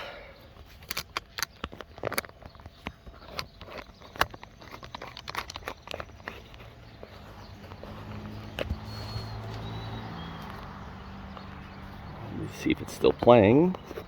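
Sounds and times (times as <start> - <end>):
handling clicks and rustles: 0.4 - 14.0.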